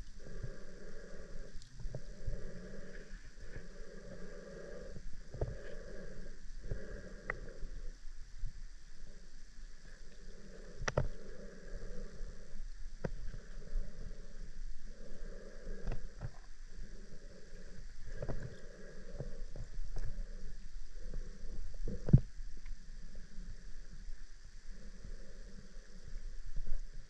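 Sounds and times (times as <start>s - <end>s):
underwater rumble of moving water: 0.0s - 27.0s.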